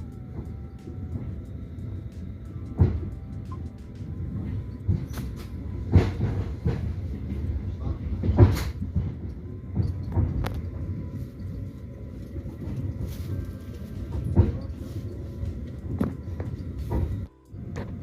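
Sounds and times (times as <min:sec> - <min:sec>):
train rumble from inside: 0:00.0 - 0:18.0
wheels knocking and clacking: 0:00.0 - 0:18.0.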